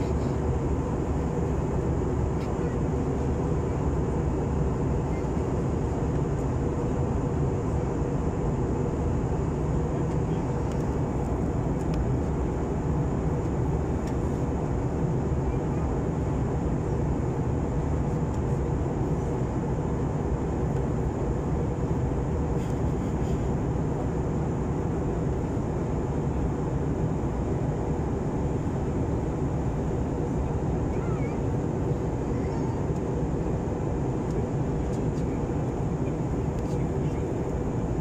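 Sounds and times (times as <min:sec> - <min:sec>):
airliner cabin engine rush: 0:00.0 - 0:38.0.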